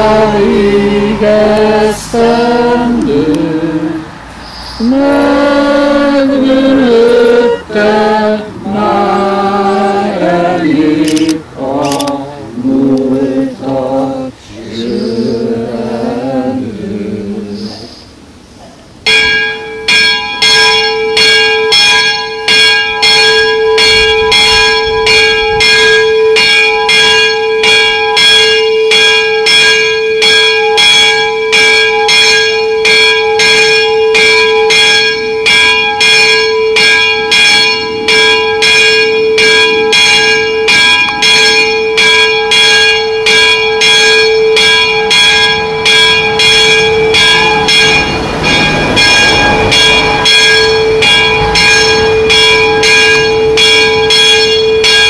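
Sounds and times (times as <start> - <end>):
church bell ringing: 0.0 - 4.0, 4.8 - 12.0, 18.9 - 55.0.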